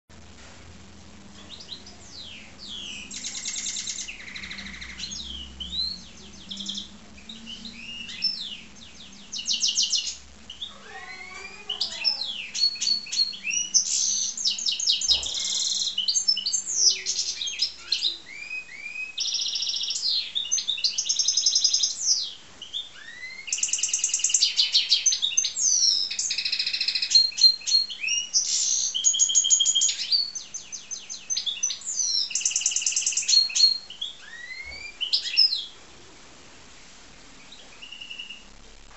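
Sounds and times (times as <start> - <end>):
bird singing trills and whistles: 1.5 - 35.8, 37.4 - 38.5.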